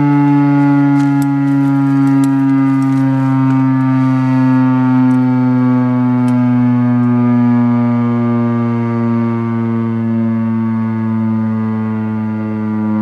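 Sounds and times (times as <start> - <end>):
outdoor warning siren low tone: 0.0 - 13.0.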